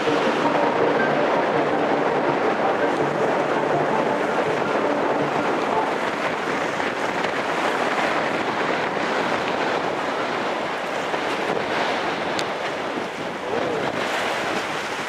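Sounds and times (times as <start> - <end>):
water washing: 0.0 - 15.0
wind on microphone: 0.0 - 15.0.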